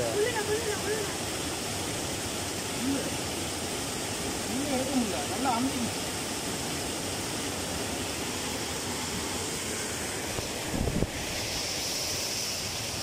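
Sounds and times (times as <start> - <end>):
water rushing through sluice: 0.0 - 13.0.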